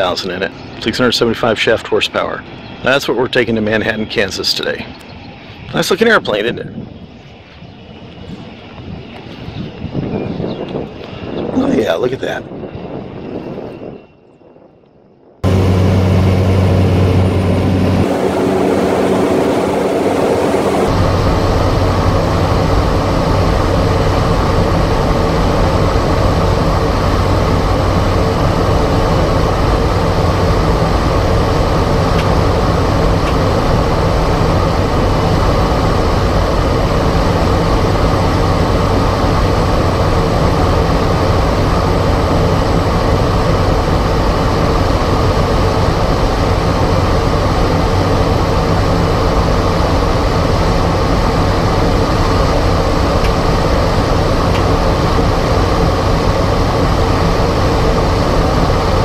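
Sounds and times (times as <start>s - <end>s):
turboprop engine droning: 0.0s - 59.0s.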